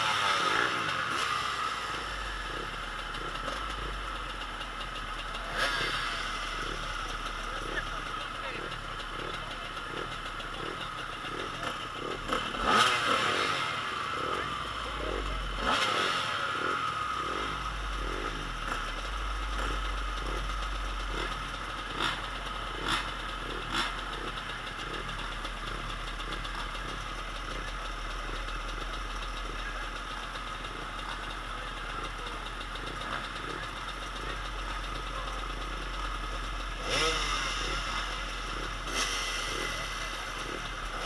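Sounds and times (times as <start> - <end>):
dirt bike engines droning: 0.0 - 41.0.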